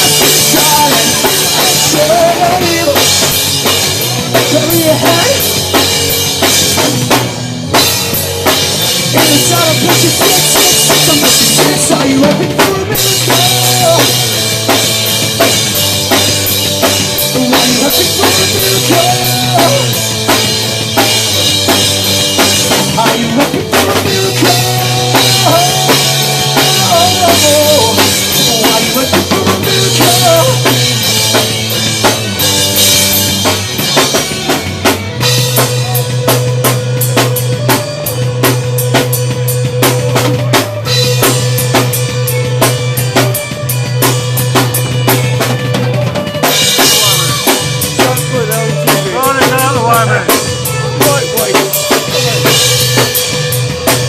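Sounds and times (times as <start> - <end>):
bass line: 0.0 - 54.0
drum kit kick and snare: 0.0 - 54.0
live band playing instrumental: 0.0 - 54.0.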